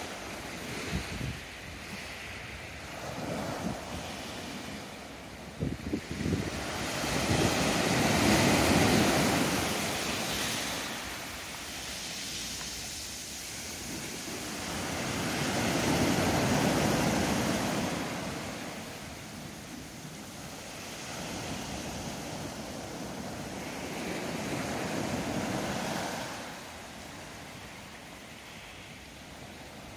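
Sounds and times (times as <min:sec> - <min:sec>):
waves washing up a beach: 0:00.0 - 0:29.9.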